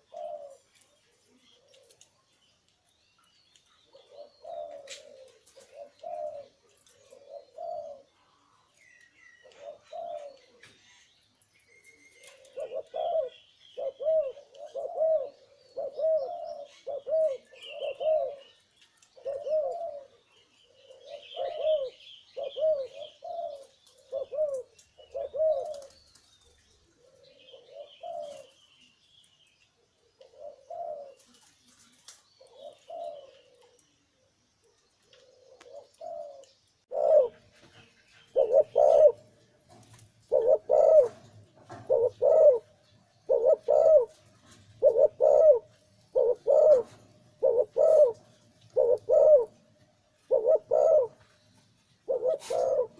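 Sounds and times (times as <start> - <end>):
dove cooing: 0.0 - 0.7, 1.3 - 2.2, 3.8 - 8.4, 9.3 - 11.1, 11.8 - 26.0, 26.8 - 28.6, 29.9 - 33.9, 35.1 - 49.6, 50.2 - 51.4, 52.0 - 52.9.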